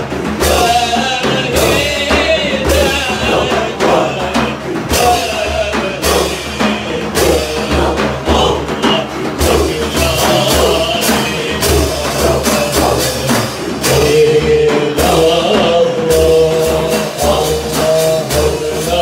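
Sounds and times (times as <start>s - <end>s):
drum strokes: 0.0s - 19.0s
man singing through loudspeaker: 0.0s - 19.0s.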